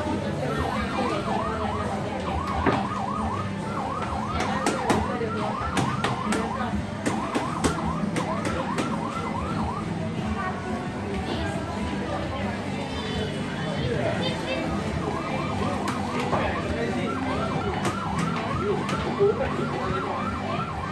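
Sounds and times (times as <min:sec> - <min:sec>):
electronic fire engine siren: 0:00.4 - 0:10.7, 0:14.3 - 0:20.9.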